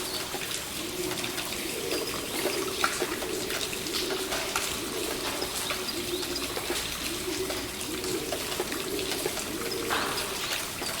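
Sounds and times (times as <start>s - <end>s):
pigeons cooing: 0.0s - 11.0s
rain falling: 0.0s - 11.0s
small birds chirping: 0.0s - 11.0s
water dripping: 0.0s - 11.0s.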